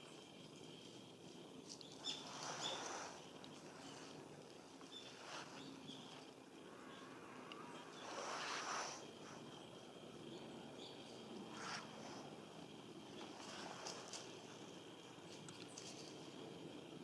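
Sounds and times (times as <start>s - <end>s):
rustling dry leaves: 0.0s - 10.2s, 11.0s - 16.5s
thin high bird calls: 1.6s - 16.2s.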